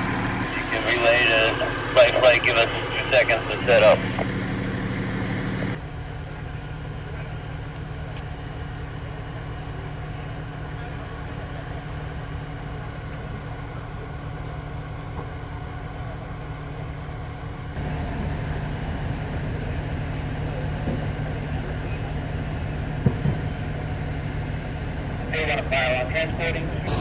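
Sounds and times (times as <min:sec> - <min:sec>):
engine idling with low hum: 0:00.0 - 0:27.0.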